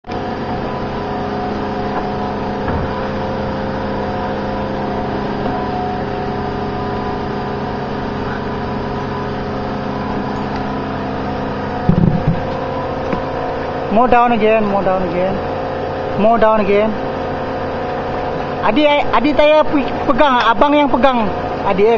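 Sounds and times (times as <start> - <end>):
engine droning hum: 0.1 - 21.9.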